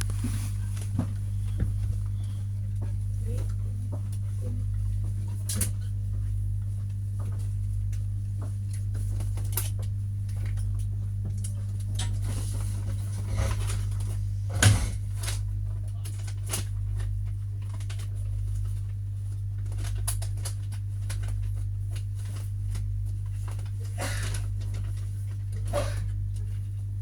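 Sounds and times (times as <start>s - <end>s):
train cabin hum and rumble: 0.0s - 27.0s.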